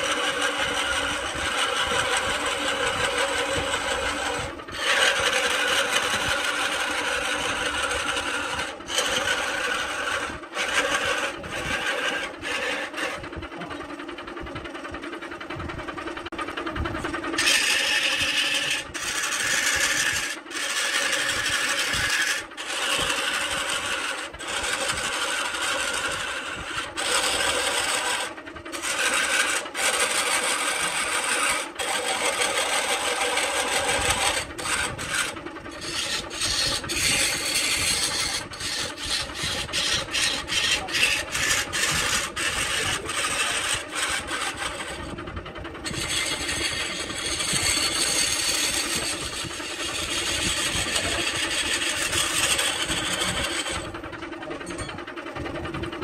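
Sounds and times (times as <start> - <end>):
turning tool rasping on wood: 0.0 - 14.1, 16.2 - 55.0
wood lathe humming: 0.0 - 56.0.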